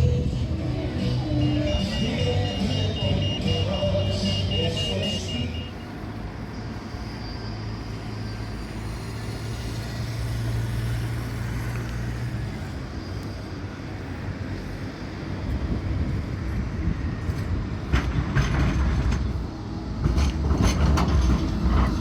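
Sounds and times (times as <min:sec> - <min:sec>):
motor vehicle humming: 0:00.0 - 0:22.0
traffic noise: 0:00.0 - 0:22.0.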